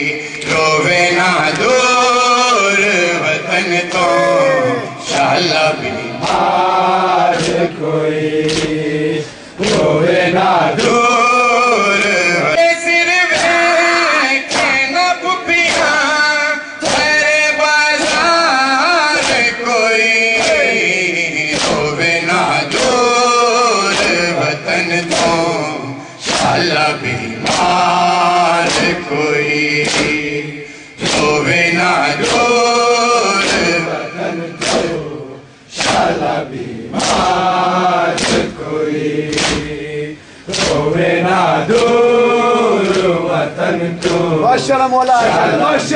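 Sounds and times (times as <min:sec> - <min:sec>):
group voices joining chant: 0:00.0 - 0:12.6, 0:20.4 - 0:45.9
man chanting a lament: 0:00.0 - 0:35.5, 0:36.1 - 0:45.9
sharp rhythmic beats: 0:00.0 - 0:45.9.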